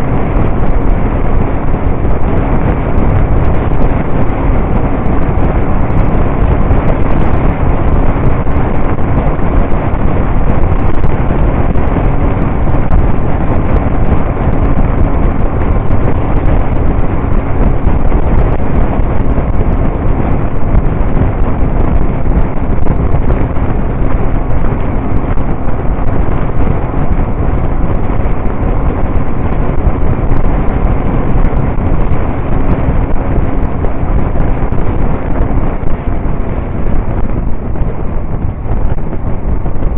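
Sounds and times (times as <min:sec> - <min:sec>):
motorcycle engine drone: 0:00.0 - 0:39.9
wind noise on microphone: 0:00.0 - 0:39.9.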